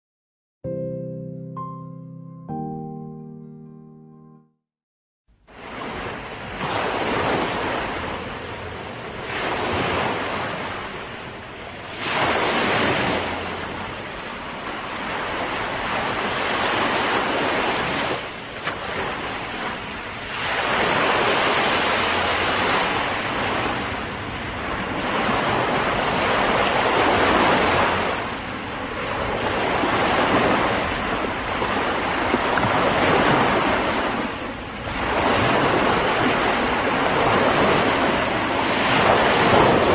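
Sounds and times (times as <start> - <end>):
wind: 5.4 - 39.9
waves breaking on shore: 5.5 - 39.9.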